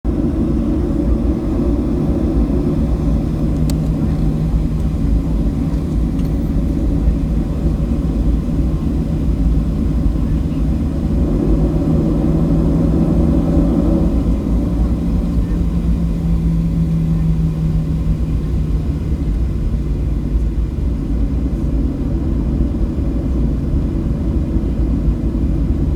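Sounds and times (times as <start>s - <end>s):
jet engine cabin rumble: 0.0s - 25.9s.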